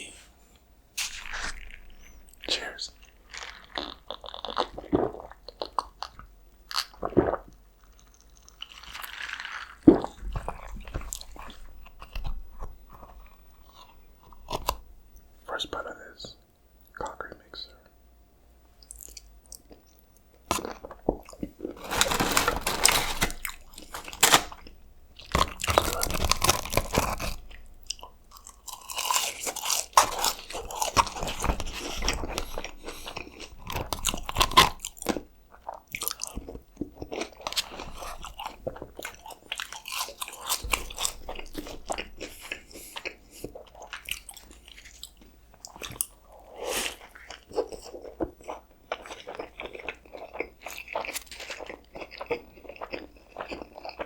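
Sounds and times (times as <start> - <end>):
crunching and chewing: 1.0 - 15.3, 18.8 - 54.0.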